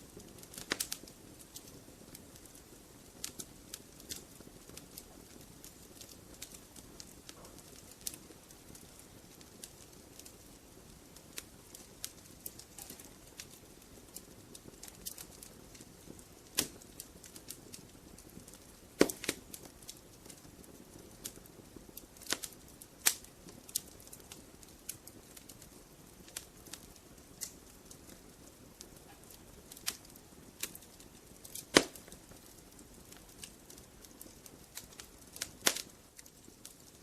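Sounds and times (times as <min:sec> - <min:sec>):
fire hissing: 0:00.0 - 0:37.0
wood fire crackling and popping: 0:00.0 - 0:37.0.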